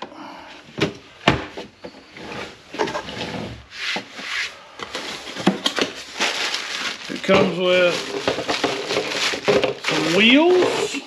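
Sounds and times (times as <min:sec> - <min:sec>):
plastic scraping and rubbing: 0:01.7 - 0:11.0.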